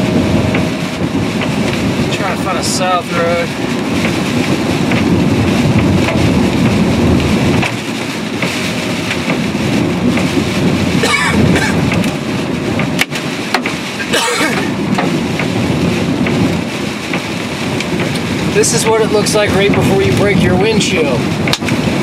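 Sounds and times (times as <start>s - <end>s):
car road noise: 0.0s - 22.0s
hail clattering on car: 0.5s - 22.0s.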